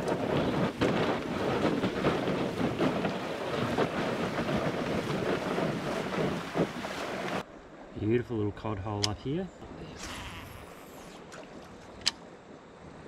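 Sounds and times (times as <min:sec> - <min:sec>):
water splashes: 0:00.0 - 0:13.0.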